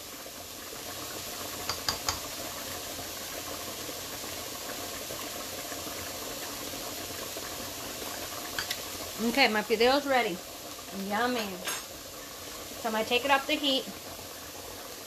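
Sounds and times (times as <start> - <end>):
food bubbling and sizzling: 0.0 - 15.0.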